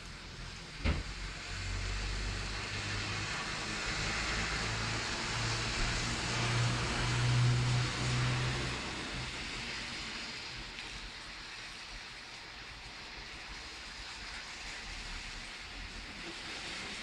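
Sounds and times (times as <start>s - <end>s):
rain on a wet street: 0.0s - 17.0s.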